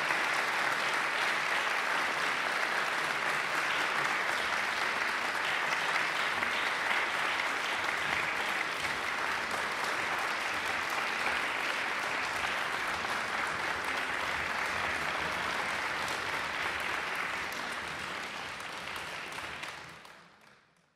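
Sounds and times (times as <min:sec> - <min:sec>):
audience applauding: 0:00.0 - 0:20.8.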